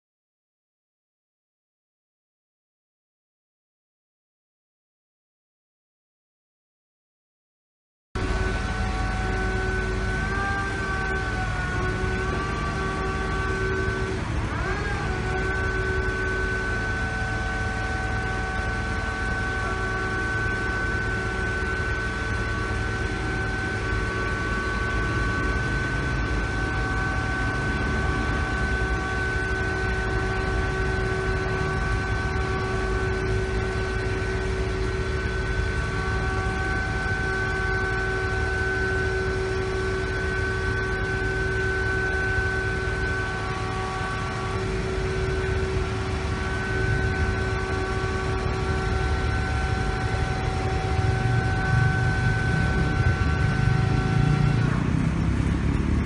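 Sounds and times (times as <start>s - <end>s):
machinery high whine: 8.2s - 56.0s
piling rig engine rumble: 8.2s - 56.0s.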